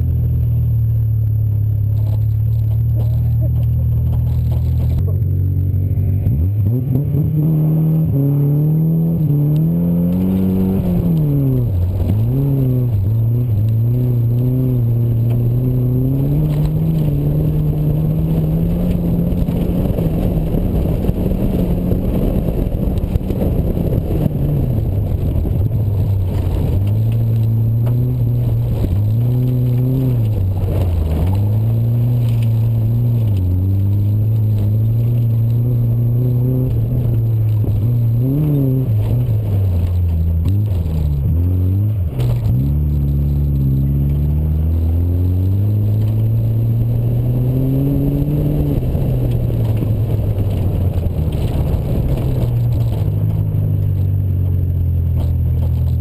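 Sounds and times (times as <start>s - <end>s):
car engine revving: 0.0s - 56.0s
tyres on loose dirt: 0.0s - 56.0s.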